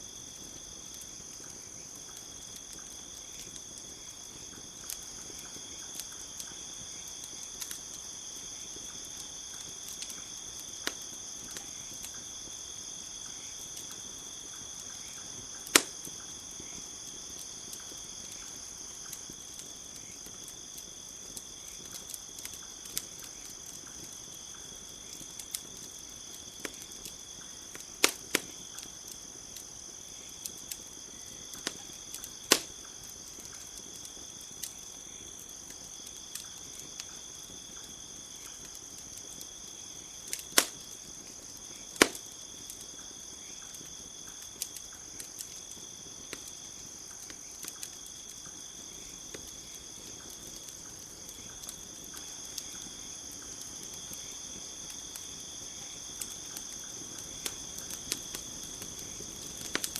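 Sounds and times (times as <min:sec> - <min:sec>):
campfire crackling and popping: 0:00.0 - 0:59.9
crickets chirring: 0:00.0 - 0:59.9.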